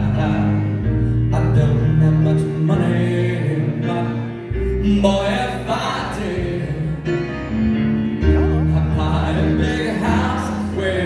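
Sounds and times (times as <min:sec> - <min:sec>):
deep bass notes: 0:00.0 - 0:11.0
live piano rock music: 0:00.0 - 0:11.0
man singing: 0:00.0 - 0:11.0.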